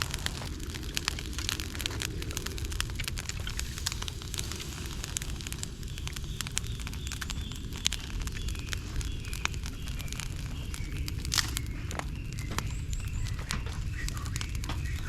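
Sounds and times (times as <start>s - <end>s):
campfire crackling and snapping: 0.0s - 15.0s
low rumble of fire: 0.0s - 15.0s.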